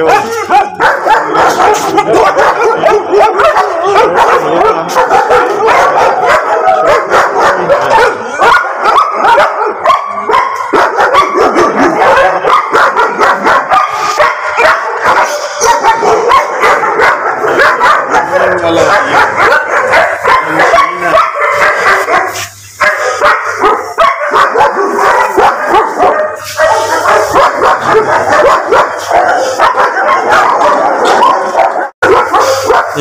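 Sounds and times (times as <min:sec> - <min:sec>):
many dogs barking: 0:00.0 - 0:33.0.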